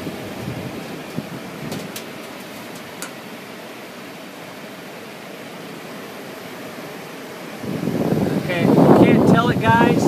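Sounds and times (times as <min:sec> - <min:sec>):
airy blower hiss: 0:00.0 - 0:10.0.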